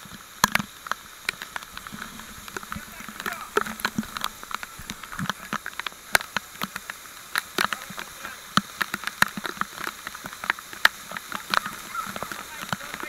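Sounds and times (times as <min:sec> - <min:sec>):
waterfall rushing: 0:00.0 - 0:13.0
drops splashing on microphone: 0:00.4 - 0:13.0.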